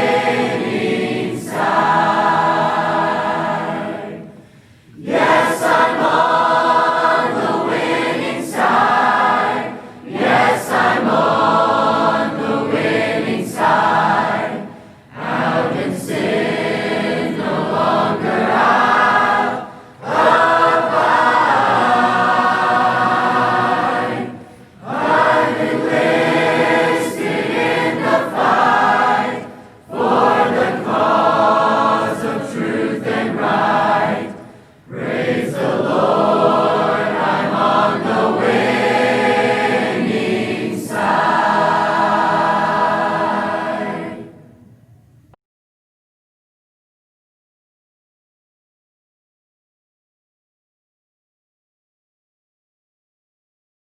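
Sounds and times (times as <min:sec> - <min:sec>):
group singing in harmony: 0:00.0 - 0:44.8.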